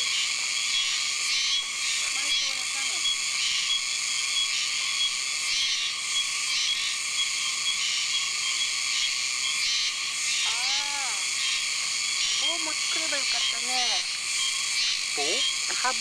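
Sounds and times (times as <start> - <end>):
cicadas and insects chorus: 0.0 - 16.0
pulsing insect call: 0.0 - 16.0.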